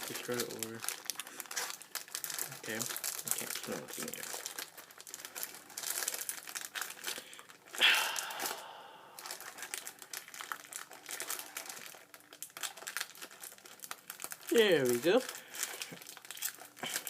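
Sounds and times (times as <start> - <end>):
plastic snack bag crinkling: 0.0 - 17.0.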